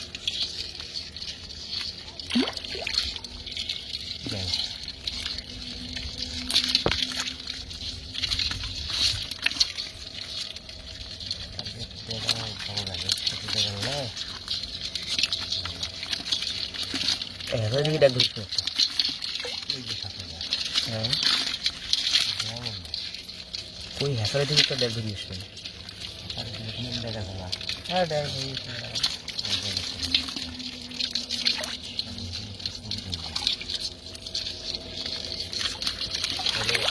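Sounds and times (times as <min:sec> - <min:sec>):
water trickles and splashes: 0:00.0 - 0:36.9
wet sloshing and squelching: 0:00.0 - 0:36.9.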